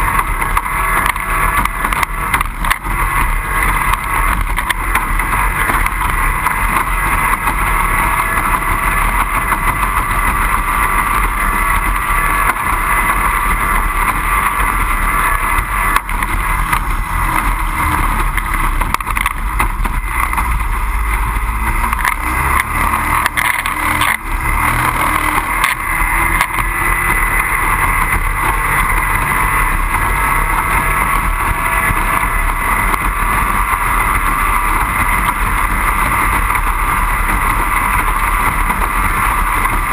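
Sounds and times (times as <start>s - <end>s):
outboard engine running: 0.0s - 39.9s
water noise: 0.0s - 39.9s
wind noise: 0.0s - 39.9s.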